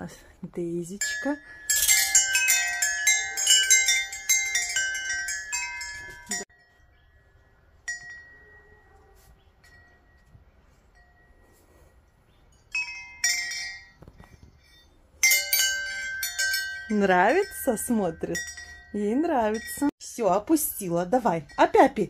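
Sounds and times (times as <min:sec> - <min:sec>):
tubular wind chime ringing: 0:01.0 - 0:22.0.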